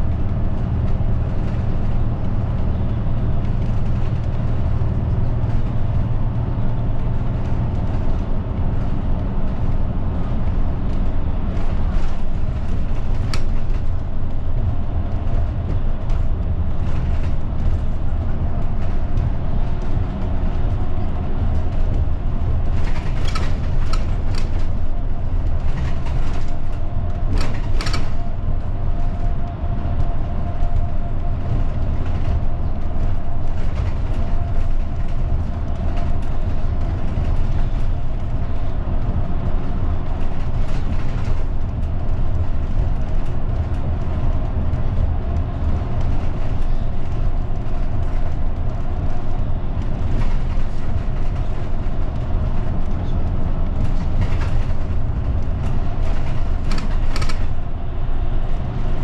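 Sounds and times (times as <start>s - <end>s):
bus engine and road rumble: 0.0s - 59.0s
light rattles and clicks: 0.1s - 59.0s.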